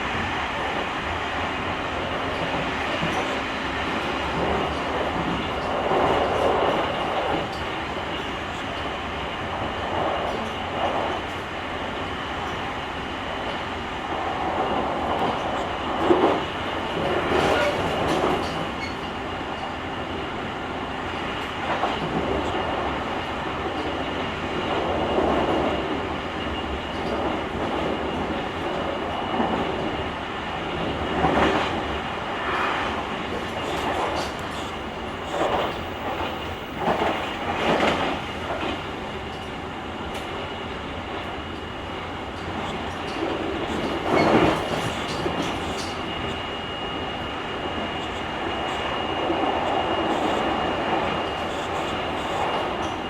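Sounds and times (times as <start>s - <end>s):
train clatter: 0.0s - 11.5s, 13.4s - 19.8s, 21.0s - 40.5s, 41.1s - 46.5s, 47.6s - 53.0s
train wheels rumbling on rails: 0.0s - 53.0s.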